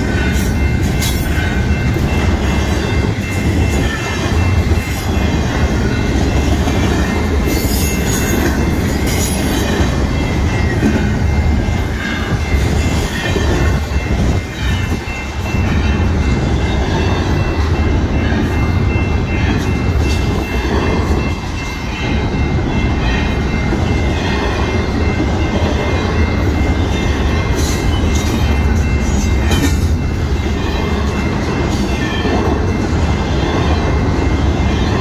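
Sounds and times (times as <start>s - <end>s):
steel wheels clattering on rail: 0.0s - 35.0s.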